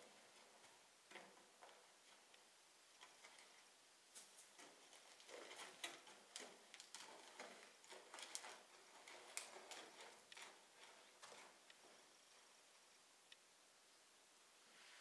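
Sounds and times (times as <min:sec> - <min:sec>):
horse hooves on sand: 0:00.0 - 0:13.0.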